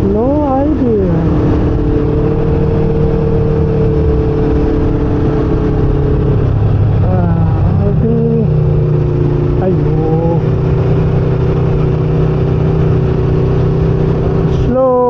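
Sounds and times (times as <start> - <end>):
heavy wind noise: 0.0 - 15.0
motorcycle engine cruising: 0.0 - 15.0.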